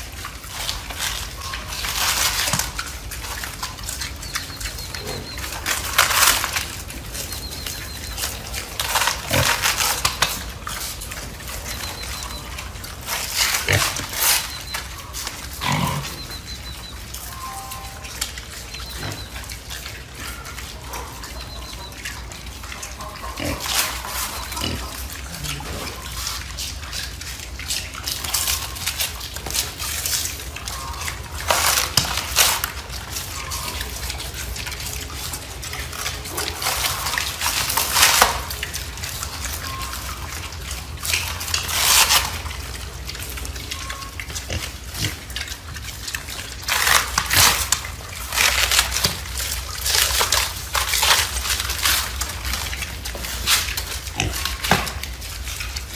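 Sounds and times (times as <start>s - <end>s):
low background hum: 0.0s - 55.9s.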